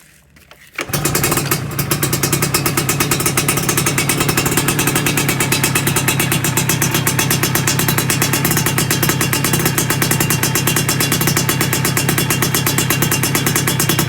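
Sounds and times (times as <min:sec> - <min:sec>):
two-stroke motorcycle engine running: 0:00.8 - 0:14.0.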